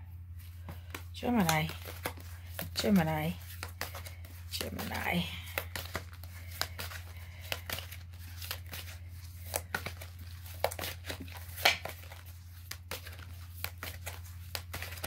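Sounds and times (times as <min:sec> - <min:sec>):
cards being shuffled: 0:00.4 - 0:15.0.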